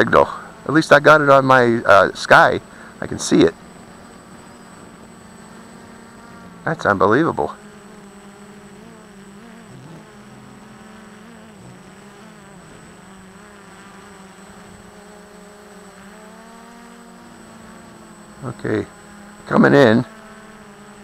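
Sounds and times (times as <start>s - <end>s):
quadcopter propellers buzzing: 0.0s - 21.0s.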